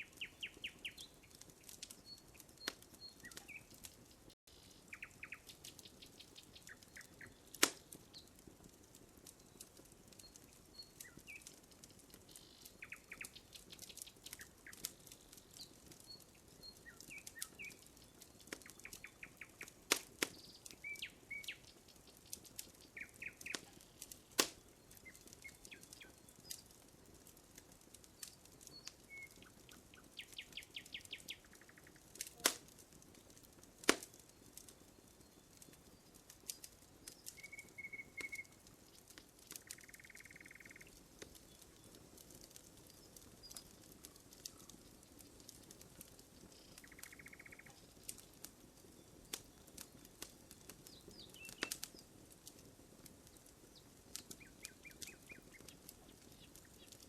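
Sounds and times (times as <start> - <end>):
sharp pops from fire: 0.0 - 57.0
small birds chirping: 0.0 - 57.0
wood fire crackling: 0.0 - 57.0.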